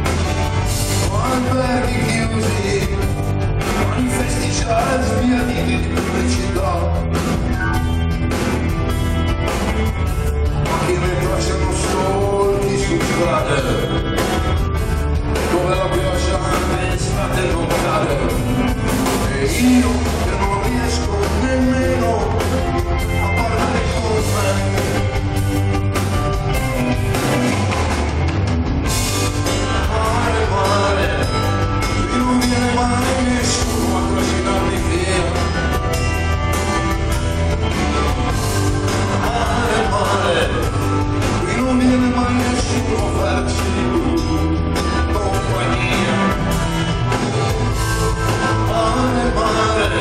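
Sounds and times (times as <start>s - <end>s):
live rock band: 0.0s - 50.0s.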